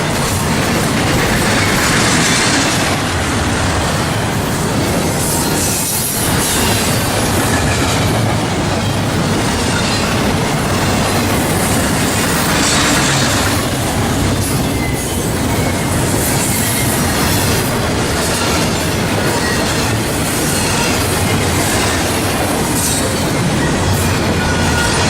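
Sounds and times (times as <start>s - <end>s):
train wheels running on rails: 0.0s - 25.0s.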